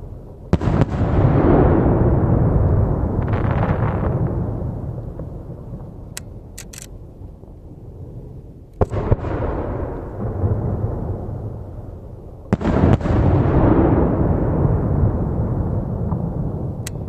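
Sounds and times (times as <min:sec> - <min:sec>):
firework booms: 0:00.5 - 0:06.5, 0:08.8 - 0:16.9.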